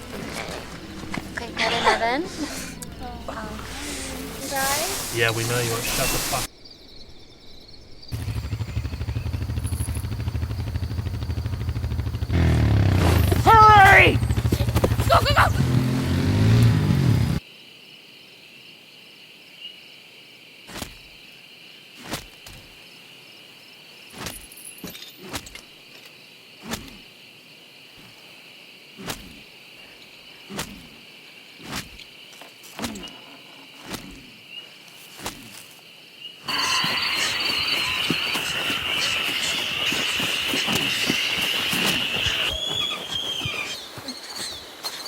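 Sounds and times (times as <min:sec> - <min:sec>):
night insects chorus: 0:00.0 - 0:45.0.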